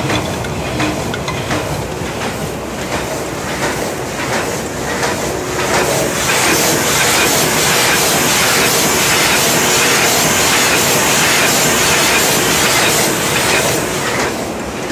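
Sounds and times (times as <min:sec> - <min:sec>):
forging machine knocking clatter: 0:00.0 - 0:14.9.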